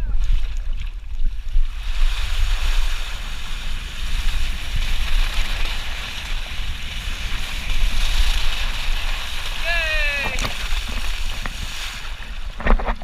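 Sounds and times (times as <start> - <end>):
rushing water and spray: 0.0 - 13.0
wind buffeting microphone: 0.0 - 13.0.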